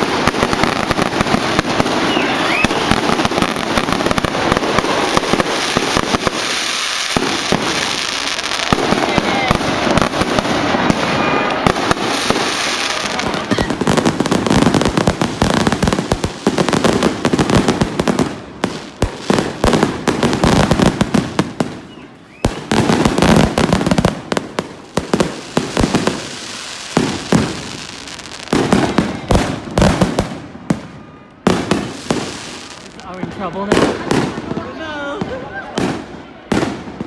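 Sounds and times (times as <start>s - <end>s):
fireworks crackling and banging: 0.0s - 37.0s.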